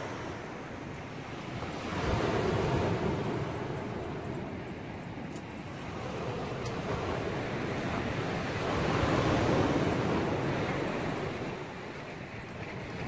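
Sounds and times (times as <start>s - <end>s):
sea surf washing on shore: 0.0s - 13.0s
wind buffeting microphone: 0.0s - 13.0s.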